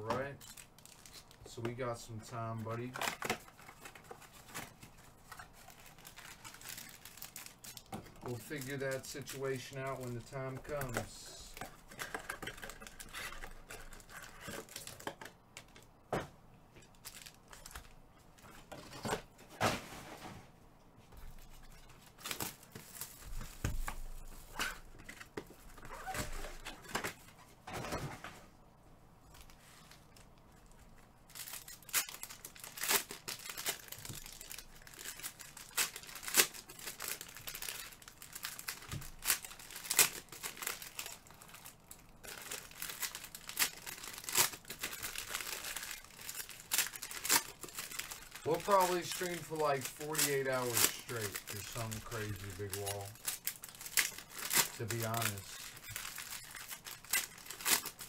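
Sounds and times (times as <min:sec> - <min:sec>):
wrappers tearing and crinkling: 0:00.1 - 0:15.4, 0:16.9 - 0:19.2, 0:21.3 - 0:27.3, 0:29.4 - 0:58.0.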